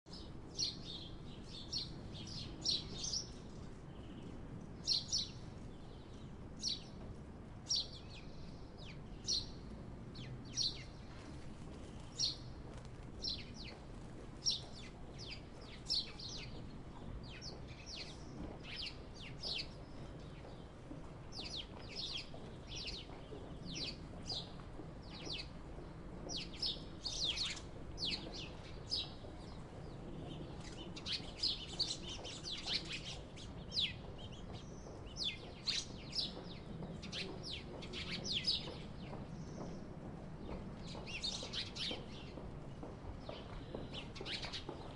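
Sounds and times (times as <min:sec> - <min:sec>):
sparrows chirping: 0:00.1 - 0:44.9.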